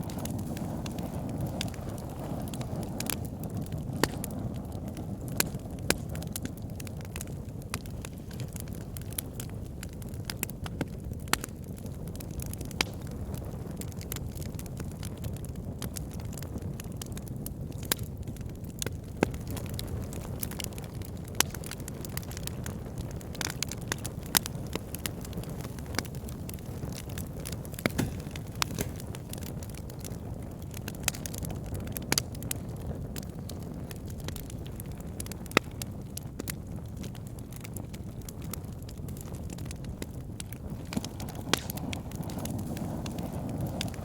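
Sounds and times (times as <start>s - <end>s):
low rumble of flames: 0.0s - 44.0s
wood fire crackling and popping: 0.0s - 44.0s.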